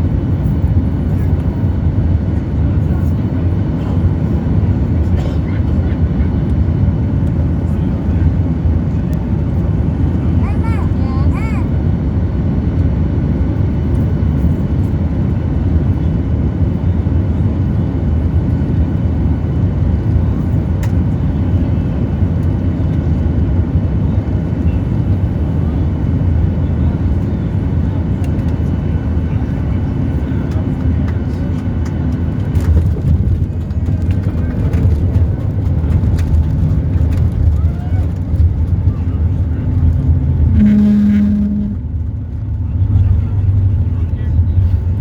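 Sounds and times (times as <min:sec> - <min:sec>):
airliner cabin engine rumble: 0:00.0 - 0:45.0.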